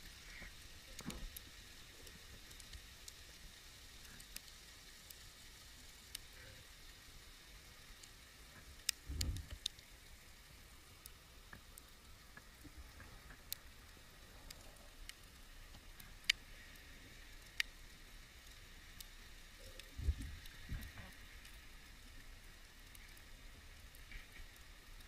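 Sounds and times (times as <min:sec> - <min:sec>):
underwater hiss: 0:00.0 - 0:24.8.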